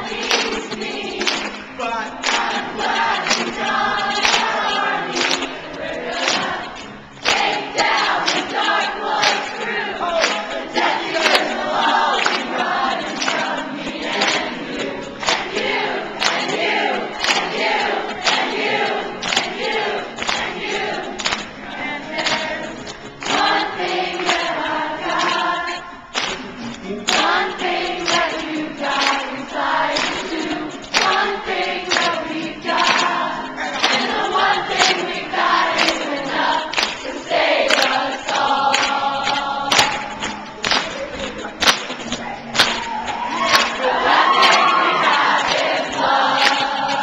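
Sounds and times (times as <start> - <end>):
acoustic guitar strumming: 0.0 - 47.0
crowd singing along: 0.0 - 47.0.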